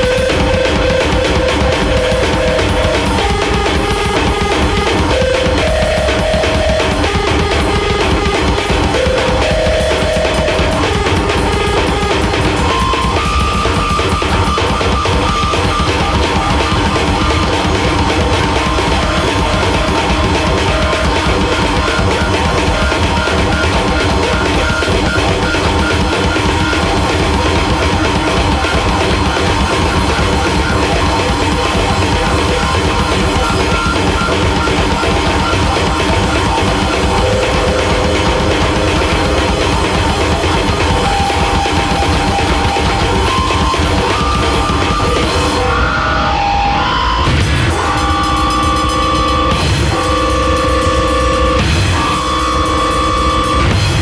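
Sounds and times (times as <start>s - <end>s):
distorted bass guitar: 0.0s - 54.0s
drum kit hit hard: 0.0s - 54.0s.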